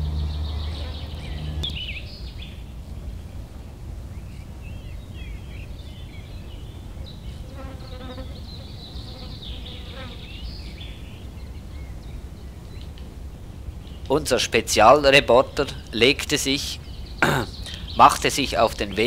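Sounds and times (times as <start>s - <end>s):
bird chirps: 0.0s - 3.4s, 4.1s - 13.0s, 14.9s - 19.0s.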